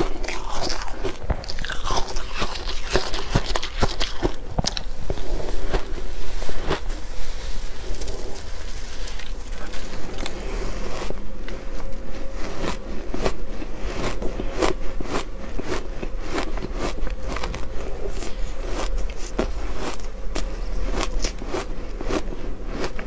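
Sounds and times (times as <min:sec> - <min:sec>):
crunching ice being chewed: 0:00.0 - 0:23.0.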